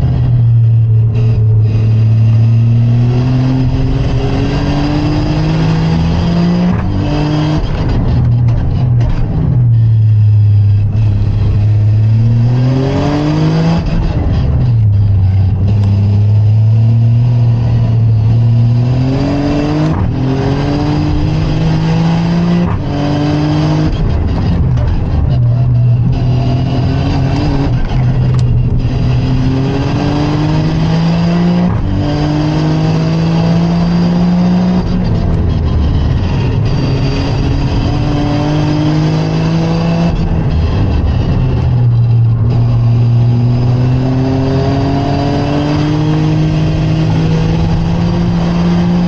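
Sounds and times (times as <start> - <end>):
car engine accelerating through gears: 0.0 - 49.0.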